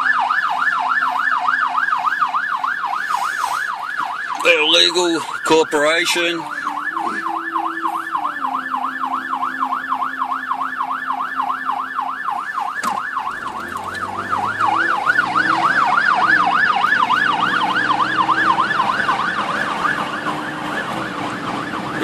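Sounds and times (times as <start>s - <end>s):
police siren yelping: 0.0s - 22.0s
vehicle noise: 0.0s - 22.0s.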